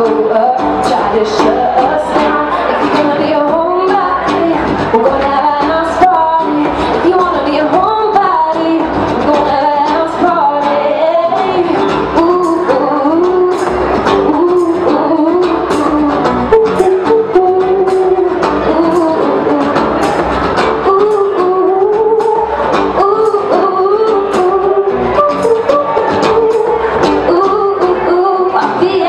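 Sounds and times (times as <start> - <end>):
acoustic guitar: 0.0 - 29.0
woman singing into microphone: 0.0 - 29.0
percussion beat: 0.1 - 28.0.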